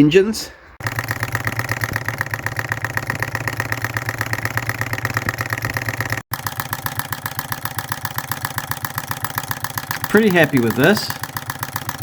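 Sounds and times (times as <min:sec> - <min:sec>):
engine mechanical beat: 0:00.8 - 0:12.0.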